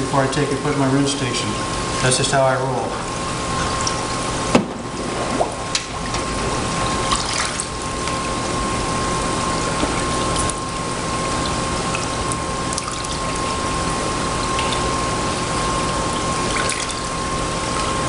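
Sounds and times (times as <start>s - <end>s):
pump running: 0.0s - 18.0s
thin steady whine: 0.0s - 18.0s
water sloshing and churning: 2.9s - 18.0s.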